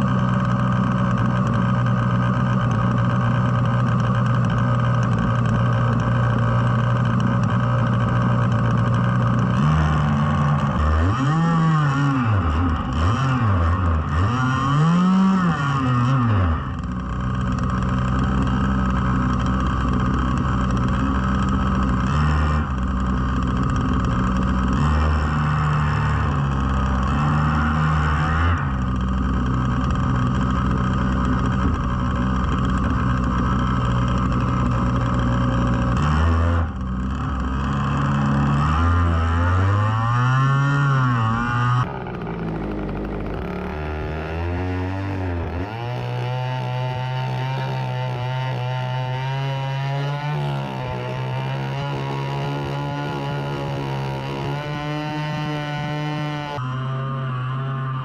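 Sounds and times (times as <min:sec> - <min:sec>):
two-stroke boat engine running: 0:00.0 - 0:58.0.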